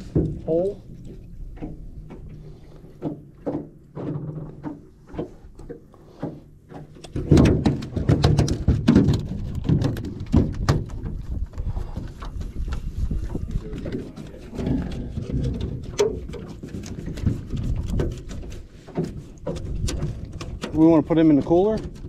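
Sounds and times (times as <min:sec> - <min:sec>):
knocks and thumps on boat: 0:00.0 - 0:22.0.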